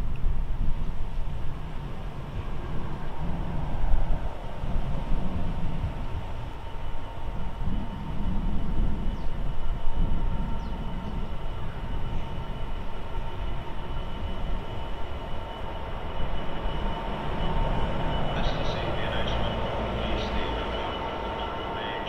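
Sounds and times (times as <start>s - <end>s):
diesel locomotive rumble: 0.0s - 22.0s
thin high whine: 2.3s - 22.0s.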